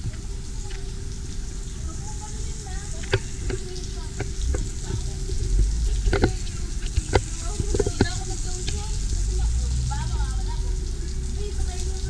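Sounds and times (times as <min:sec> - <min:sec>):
low rumble: 0:00.0 - 0:12.0
shower water spraying on concrete: 0:00.0 - 0:12.0.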